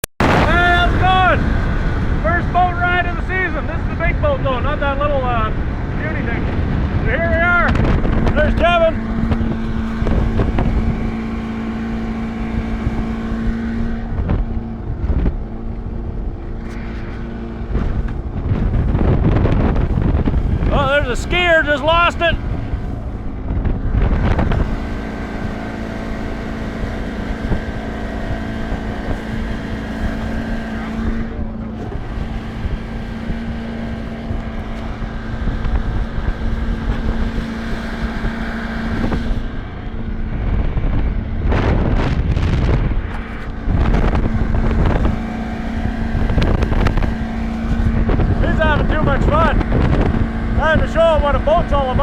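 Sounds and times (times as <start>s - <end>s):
outboard motor running: 0.0s - 52.0s
wind buffeting microphone: 0.2s - 52.0s.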